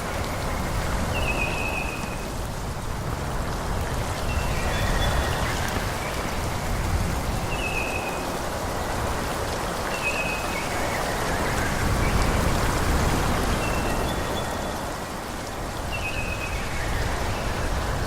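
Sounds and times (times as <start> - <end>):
wind rushing through forest: 0.0 - 18.0.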